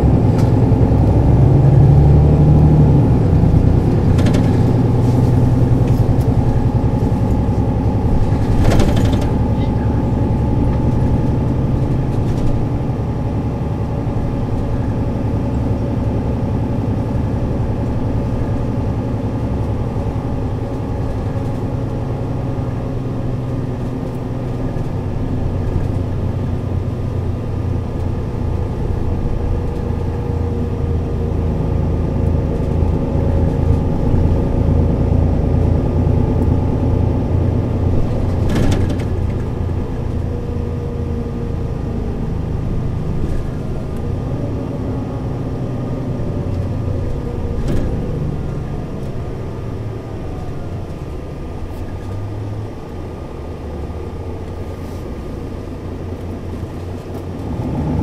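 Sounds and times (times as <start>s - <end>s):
bus diesel engine hum: 0.0s - 58.0s.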